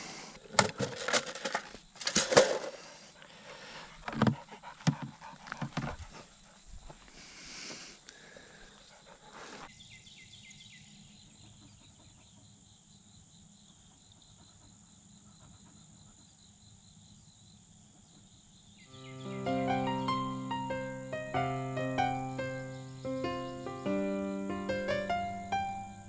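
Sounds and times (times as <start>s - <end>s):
crickets and insects chirring: 0.0s - 26.0s.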